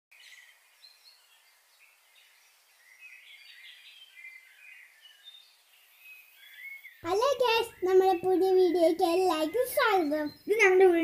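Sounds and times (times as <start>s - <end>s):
faint bird chirps: 0.2s - 11.0s.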